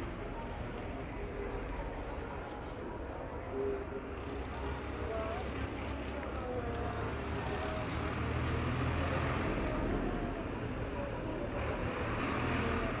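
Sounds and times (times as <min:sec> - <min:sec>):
general noise: 0:00.0 - 0:13.0.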